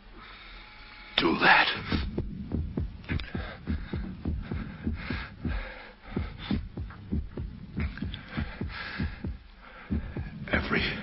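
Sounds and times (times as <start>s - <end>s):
heartbeat thumps: 1.8s - 11.0s.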